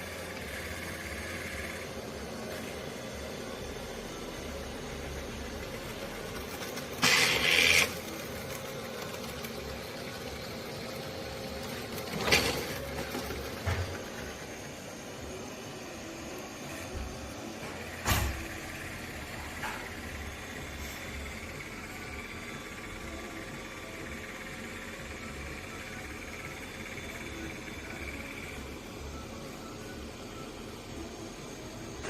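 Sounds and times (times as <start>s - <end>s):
vacuum cleaner motor running: 0.0s - 31.2s.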